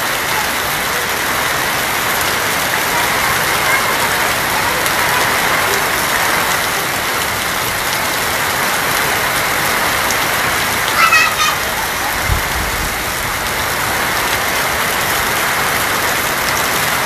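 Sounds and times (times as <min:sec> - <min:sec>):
heavy rain on a tin roof: 0:00.0 - 0:17.0.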